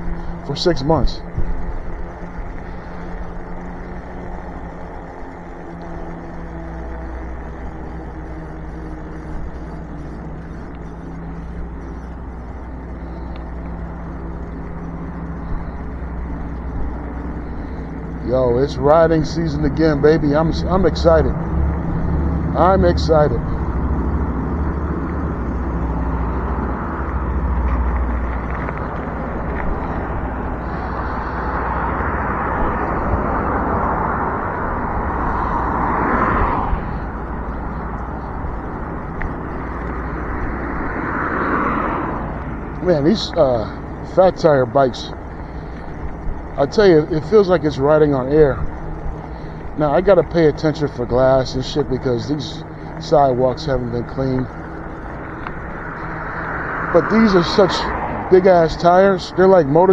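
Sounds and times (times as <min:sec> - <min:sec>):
electric motor hum: 0:00.0 - 0:59.9
tyres rolling: 0:00.0 - 0:59.9
wind rumbling on microphone: 0:00.0 - 0:59.9.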